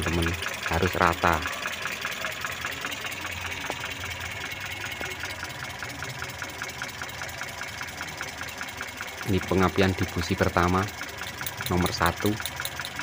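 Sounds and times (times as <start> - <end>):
car engine idling with ticking: 0.0 - 13.0.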